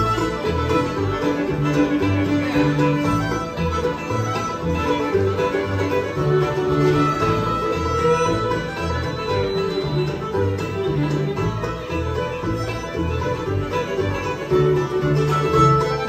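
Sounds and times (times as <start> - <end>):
banjo: 0.0 - 16.0
bass line: 0.0 - 16.0
fiddle: 0.0 - 16.0
guitar: 0.0 - 16.0.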